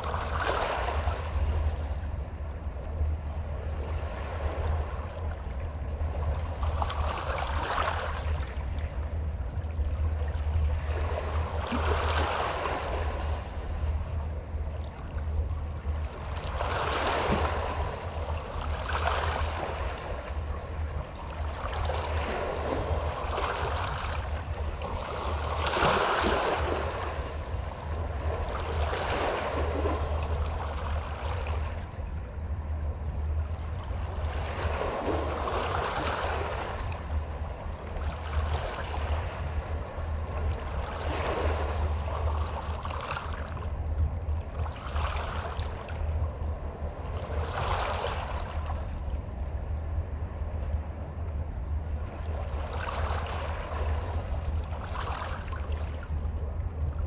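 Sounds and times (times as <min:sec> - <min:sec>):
small waves lapping on shore: 0:00.0 - 0:57.0
steady low rumble: 0:00.0 - 0:57.0.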